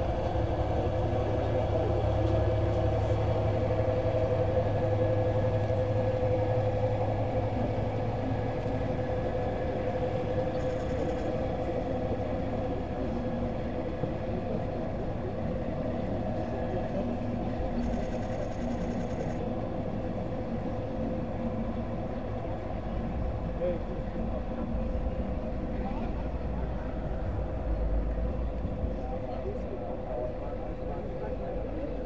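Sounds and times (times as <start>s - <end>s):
diesel locomotive hum and rumble: 0.0s - 32.0s.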